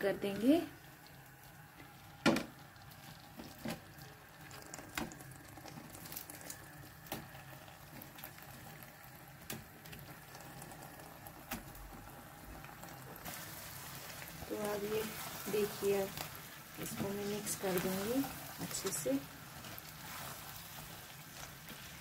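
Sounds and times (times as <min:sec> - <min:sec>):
sauce sizzling in a frying pan: 0:00.0 - 0:22.0.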